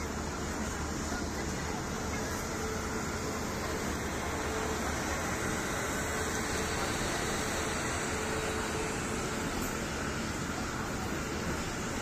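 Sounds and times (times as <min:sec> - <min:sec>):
train hum and rush: 0:00.0 - 0:12.0.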